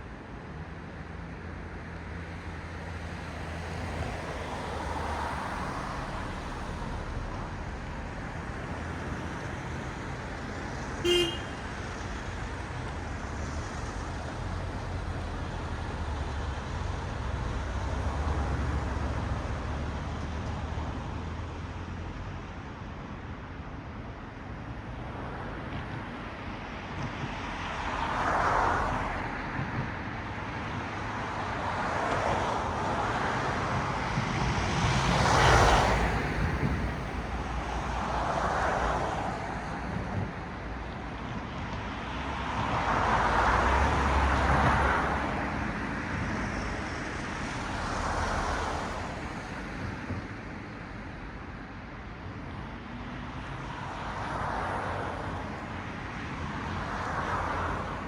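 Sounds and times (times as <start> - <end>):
cars passing: 0.5 - 21.6, 26.9 - 58.0.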